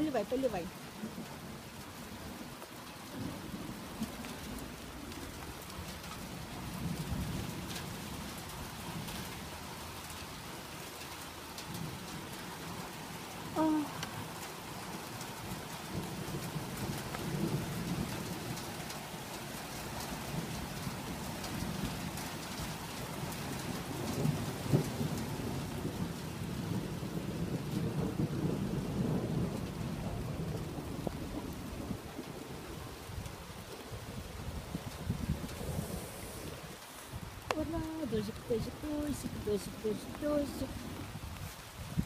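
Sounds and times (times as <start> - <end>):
steady rain on plants and soil: 0.0 - 42.0.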